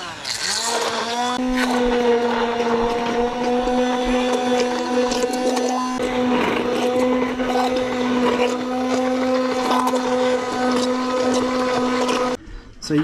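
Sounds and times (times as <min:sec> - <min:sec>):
immersion blender motor hum: 0:00.0 - 0:12.4.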